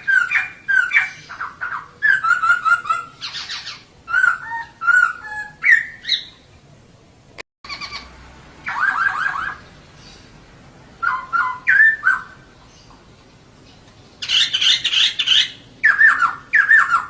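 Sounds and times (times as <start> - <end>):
bird rapid chirping calls: 0.0 - 6.3, 7.6 - 10.4, 11.0 - 17.0.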